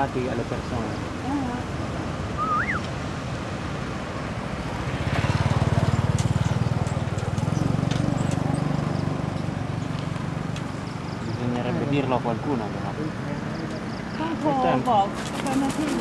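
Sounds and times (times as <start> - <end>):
vehicle passing on road: 0.0 - 16.0.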